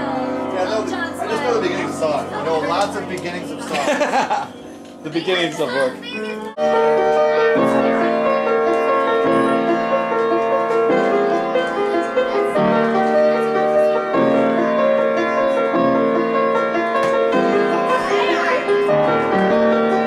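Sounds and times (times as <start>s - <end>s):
piano chords and melody: 0.0s - 20.0s.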